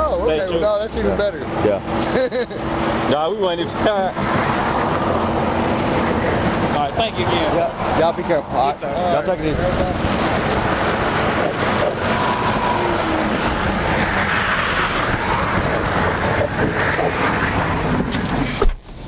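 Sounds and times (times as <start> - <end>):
vehicle passing by: 0.0 - 18.6
roar of highway traffic: 0.0 - 19.0
wind buffeting microphone: 3.6 - 19.0.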